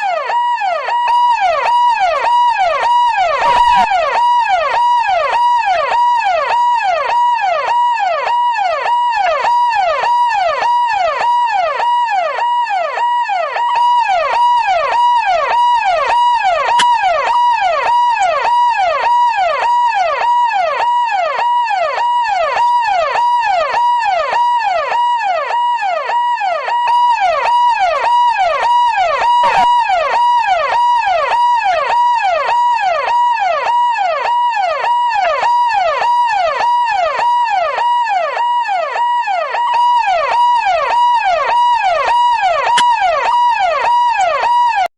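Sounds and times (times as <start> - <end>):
police siren sweeping: 0.0 - 44.9.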